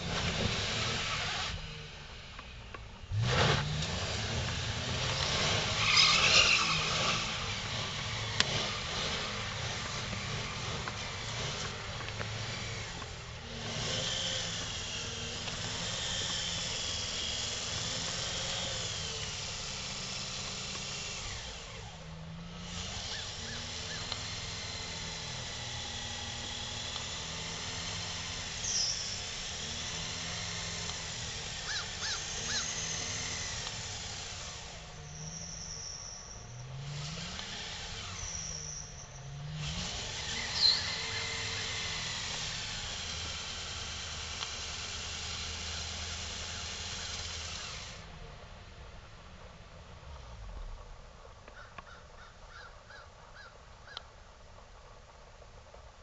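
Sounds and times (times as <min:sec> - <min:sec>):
car engine revving: 0:00.0 - 0:51.9
tires whining on ice: 0:00.0 - 0:56.0.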